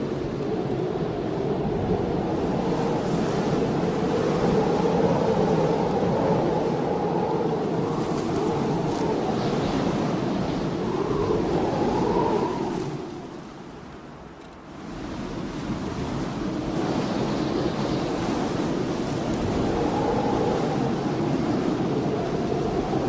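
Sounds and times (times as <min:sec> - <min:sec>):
wind blowing in gusts: 0:00.0 - 0:23.0.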